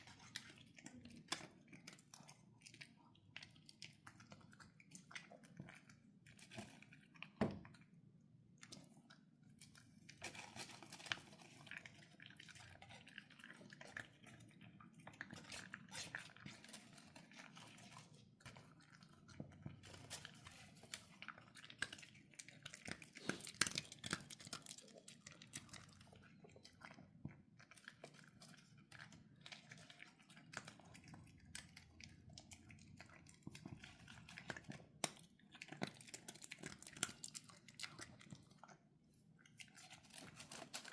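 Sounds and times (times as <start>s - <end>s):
pet crunching dry kibble: 0.0s - 7.8s, 8.6s - 40.9s.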